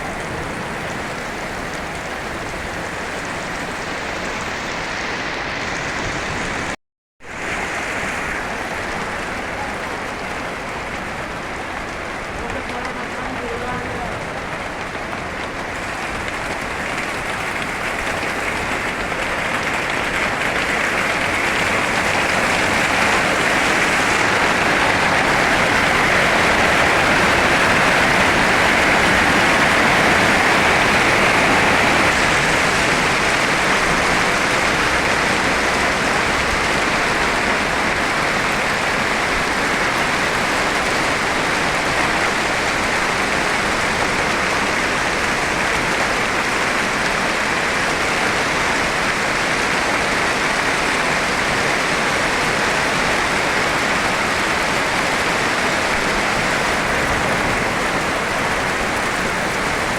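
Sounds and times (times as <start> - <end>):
heavy rain downpour: 0.0 - 59.9.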